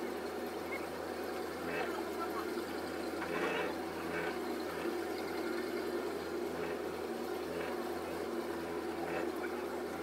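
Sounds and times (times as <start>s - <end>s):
car engine running at low speed: 0.0s - 10.0s.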